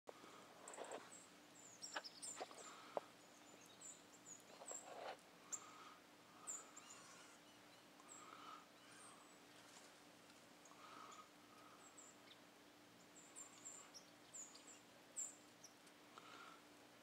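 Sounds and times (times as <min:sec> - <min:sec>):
songbirds chirping: 0:00.1 - 0:17.0.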